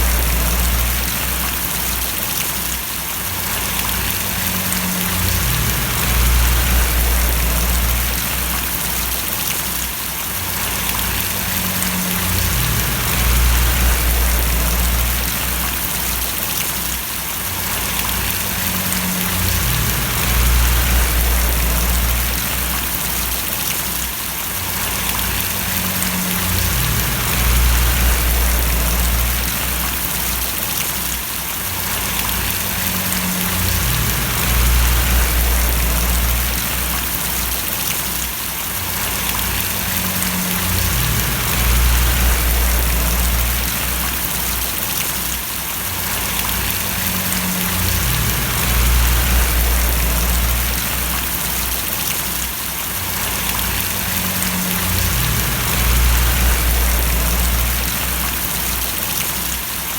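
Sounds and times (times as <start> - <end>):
low rumble: 0.0 - 1.8, 3.5 - 9.4, 10.6 - 16.3, 17.7 - 23.7, 24.7 - 30.6, 31.9 - 37.9, 38.8 - 44.8, 46.0 - 52.1, 53.0 - 59.0
rain falling and splashing: 0.0 - 59.9.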